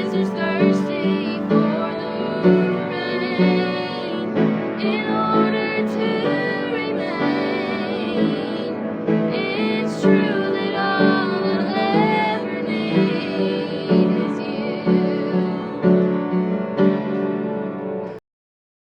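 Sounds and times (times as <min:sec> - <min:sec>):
woman singing: 0:00.0 - 0:16.5
piano chords: 0:00.0 - 0:18.2.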